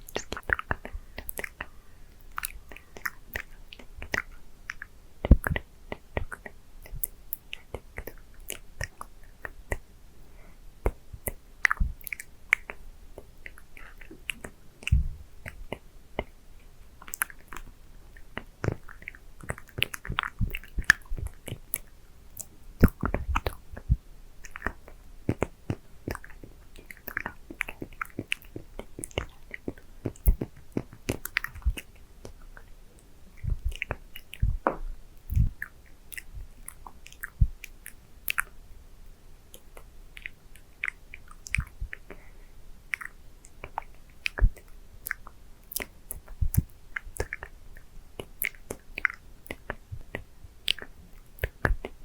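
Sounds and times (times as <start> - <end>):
licking and sucking candy: 0.0 - 9.9, 17.0 - 38.6, 39.5 - 52.0.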